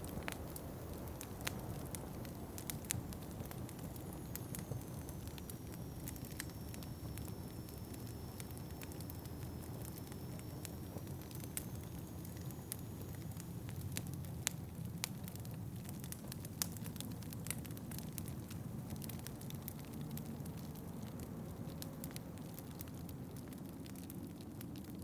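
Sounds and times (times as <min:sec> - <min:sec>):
fire popping: 0:00.0 - 0:25.0
wood fire crackling: 0:00.0 - 0:25.0.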